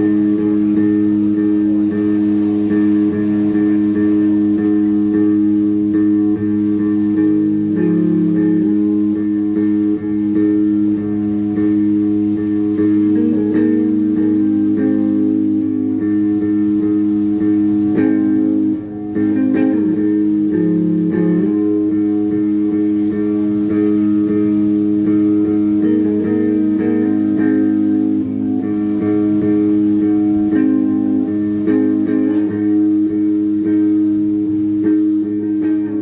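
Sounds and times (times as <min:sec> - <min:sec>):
plucked guitar: 0:00.0 - 0:36.0
sustained low notes: 0:00.0 - 0:36.0.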